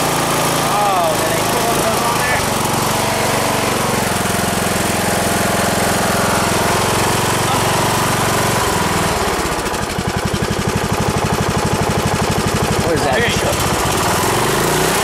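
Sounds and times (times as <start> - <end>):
riding mower engine chugging: 0.0 - 15.0.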